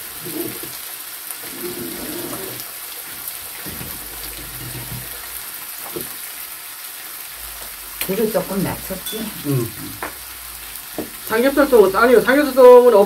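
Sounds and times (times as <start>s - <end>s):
pork sizzling on grill pan: 0.0s - 13.0s.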